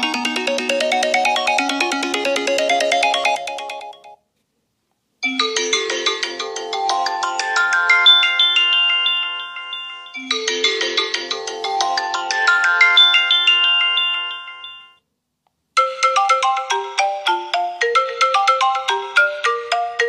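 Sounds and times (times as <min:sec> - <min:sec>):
bright melodic ringtone: 0:00.0 - 0:04.2, 0:05.2 - 0:15.0, 0:15.8 - 0:20.0
chiming ringtone melody: 0:00.0 - 0:04.2, 0:05.2 - 0:15.0, 0:15.8 - 0:20.0.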